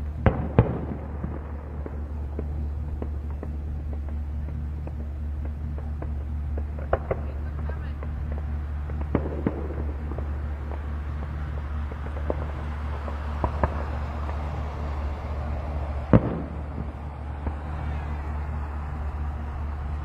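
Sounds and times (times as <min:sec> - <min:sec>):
fireworks bursting: 0:00.0 - 0:20.0
steady low hum: 0:00.0 - 0:20.0.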